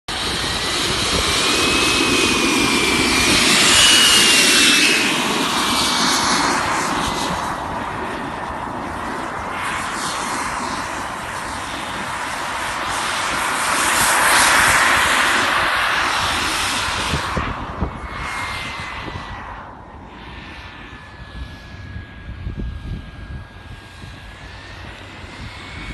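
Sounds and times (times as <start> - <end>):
model jet flying past: 0.1 - 25.9.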